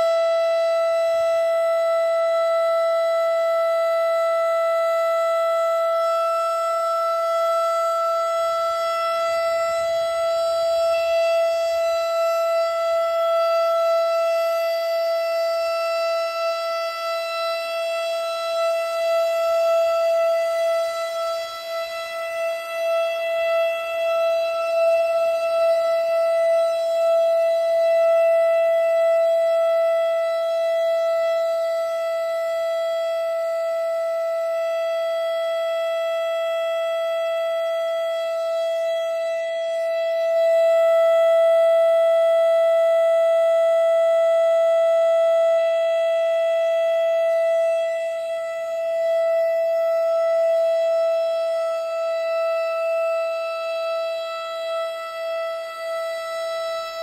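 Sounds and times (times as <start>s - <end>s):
warning siren steady high tone: 0.0s - 57.0s.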